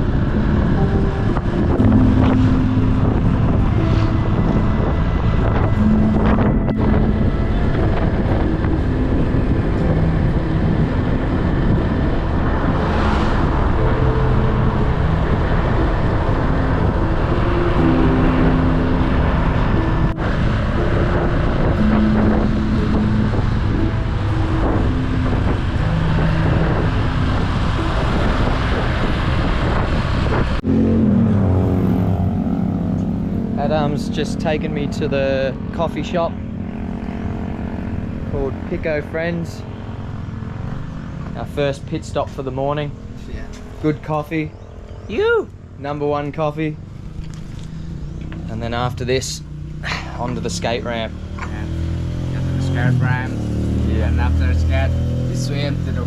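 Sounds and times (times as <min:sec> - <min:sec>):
wind on microphone: 0:00.0 - 0:45.8
vehicle road noise: 0:00.0 - 0:56.0.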